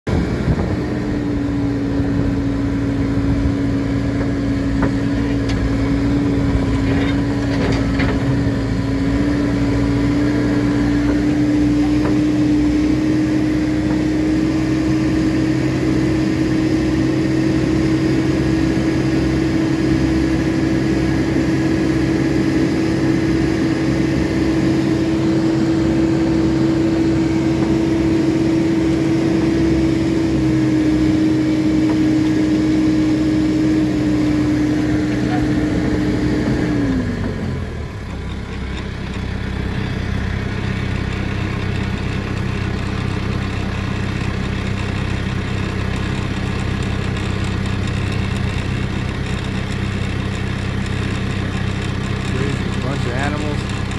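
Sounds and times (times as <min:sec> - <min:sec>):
tractor engine droning: 0:00.0 - 0:53.9.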